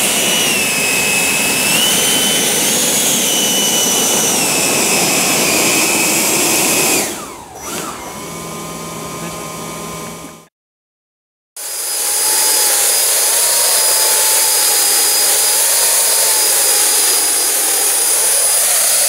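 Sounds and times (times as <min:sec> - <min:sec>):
model jet motors whining: 0:00.0 - 0:10.5, 0:11.6 - 0:19.0.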